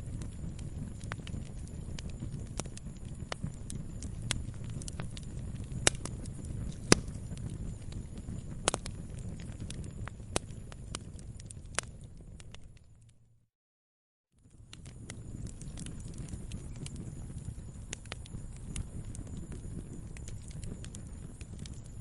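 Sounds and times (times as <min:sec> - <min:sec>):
log fire rumble: 0:00.0 - 0:13.1, 0:14.4 - 0:22.0
fire crackling and popping: 0:00.0 - 0:13.2, 0:14.4 - 0:22.0.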